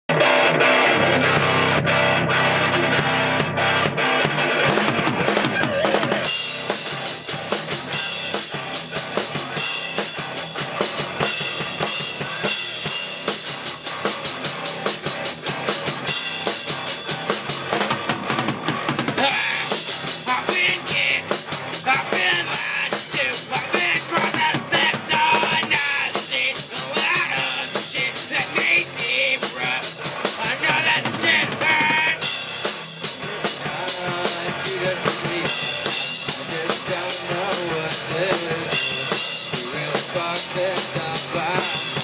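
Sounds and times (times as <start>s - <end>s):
live band playing: 0.1s - 42.0s
fast steady drumming: 4.0s - 42.0s.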